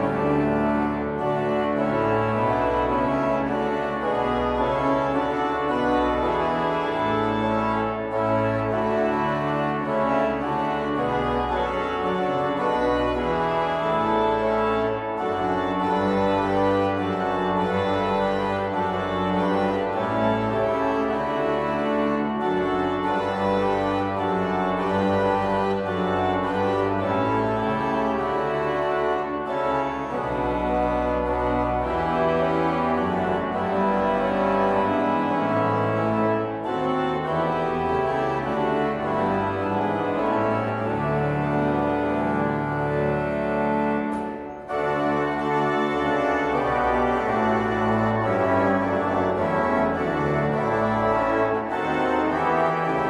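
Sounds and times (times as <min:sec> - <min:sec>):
organ music: 0:00.0 - 0:53.0.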